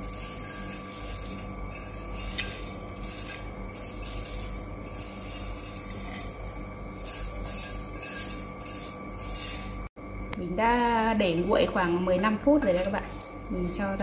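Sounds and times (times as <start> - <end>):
fried shallots rustling and crackling: 0.0 - 9.9, 10.5 - 14.0.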